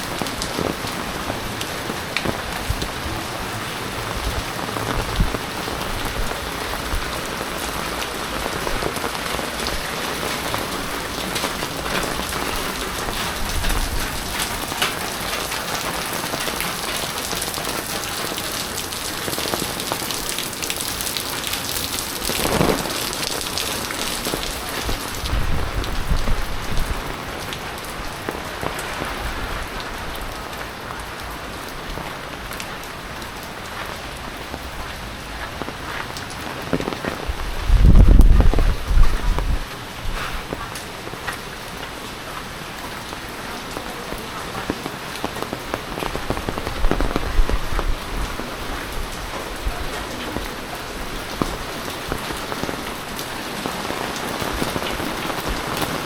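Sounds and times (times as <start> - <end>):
heavy rain falling: 0.0 - 56.0
raindrops pattering: 0.0 - 56.0.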